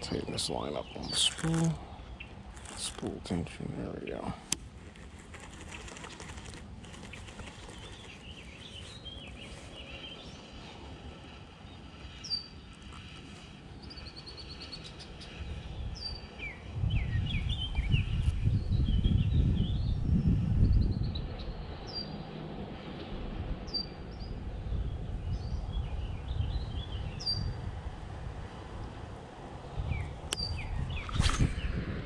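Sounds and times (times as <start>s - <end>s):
songbirds chirping and warbling: 0.0s - 32.0s.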